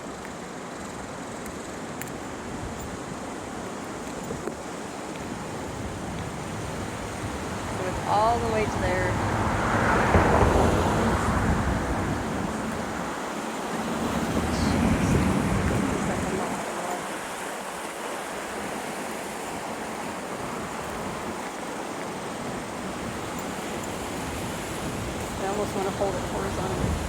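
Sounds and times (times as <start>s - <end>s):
flooding river rushing: 0.0s - 27.0s
wind buffeting microphone: 2.3s - 17.6s, 18.4s - 27.0s.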